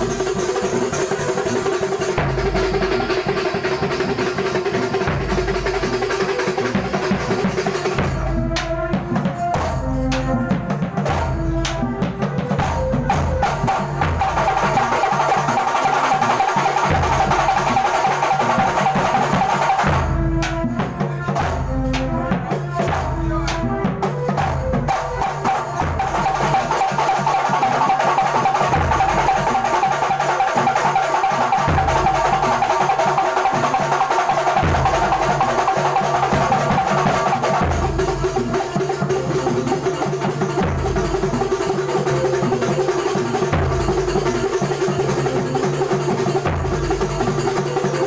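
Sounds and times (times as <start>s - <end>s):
hand drums and frame drums: 0.0s - 48.0s
heavy bass drum beats: 0.0s - 48.0s.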